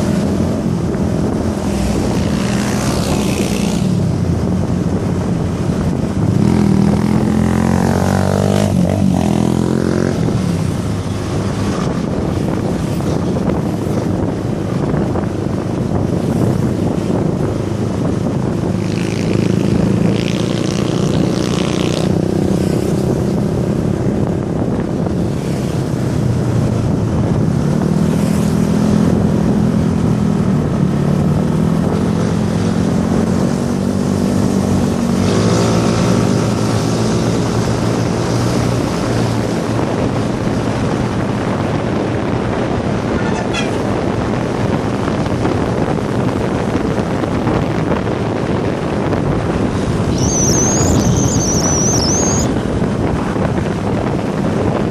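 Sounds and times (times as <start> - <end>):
wind rumble: 0.0 - 54.9.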